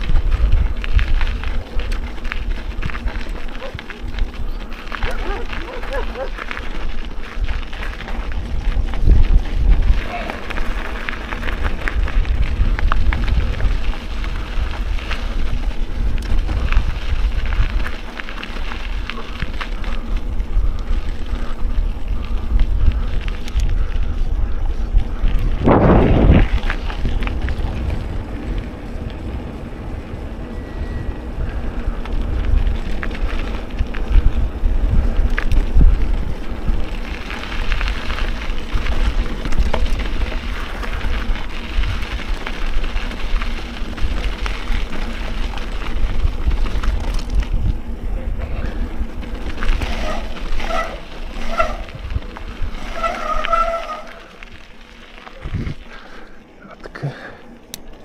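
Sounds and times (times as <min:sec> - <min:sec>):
wind rushing on microphone: 0:00.0 - 0:54.6, 0:55.4 - 0:56.0
bike rattling on rough trail: 0:00.0 - 0:58.0.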